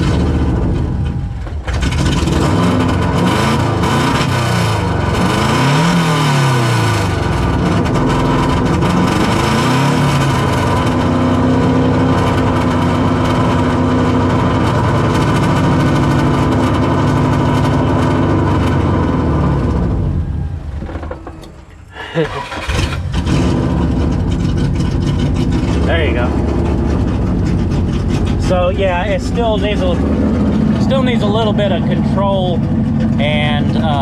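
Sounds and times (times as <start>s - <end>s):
car engine running rough: 0.0s - 34.0s.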